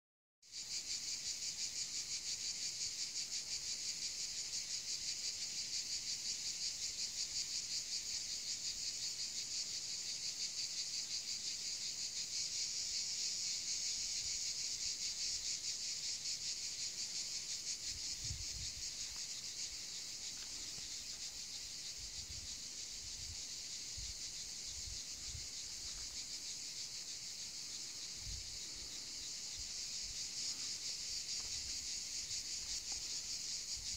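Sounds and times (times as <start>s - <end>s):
insects chirring: 0.5s - 33.9s.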